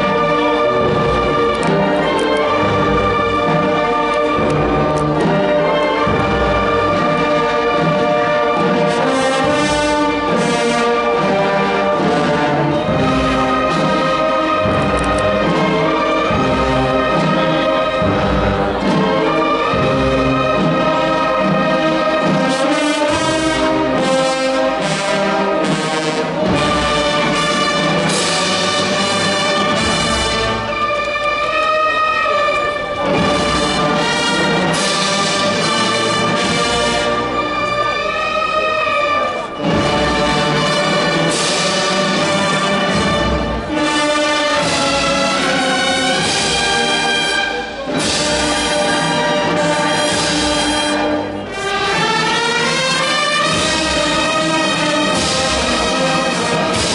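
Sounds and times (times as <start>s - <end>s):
brass band playing: 0.0s - 56.9s.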